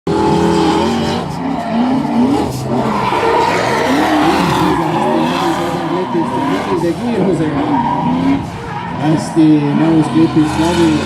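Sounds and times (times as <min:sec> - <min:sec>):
car engine revving: 0:00.1 - 0:11.0
tyres skidding and squealing: 0:00.1 - 0:11.0.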